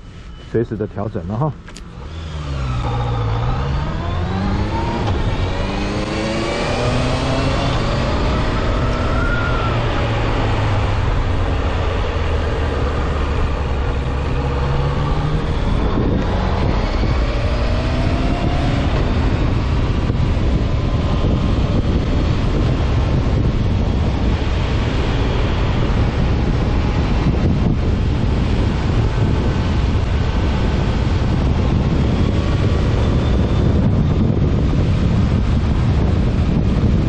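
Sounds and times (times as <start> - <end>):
wind noise: 0.0 - 37.0
motorcycle engine accelerating: 1.6 - 37.0.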